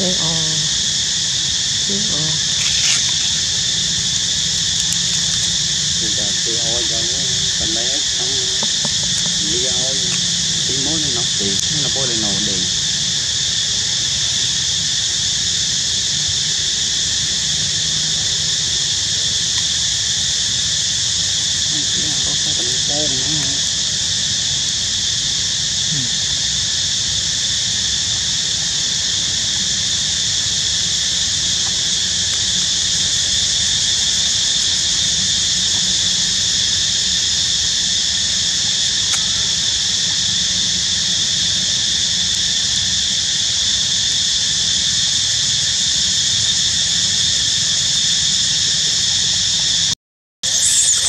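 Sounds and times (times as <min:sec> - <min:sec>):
high-pitched insect chorus: 0:00.0 - 0:51.0.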